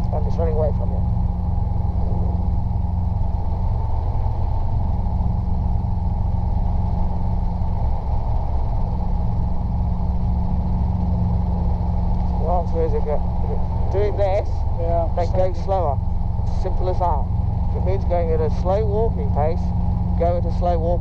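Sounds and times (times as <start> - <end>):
helicopter engine and rotors: 0.0 - 21.0.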